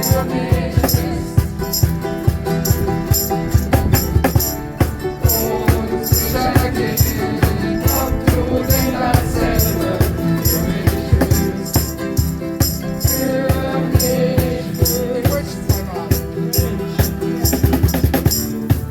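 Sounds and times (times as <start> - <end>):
voices singing along: 0.0 - 18.5
shaker keeping time: 0.0 - 18.9
ukuleles strumming chords: 0.0 - 18.9.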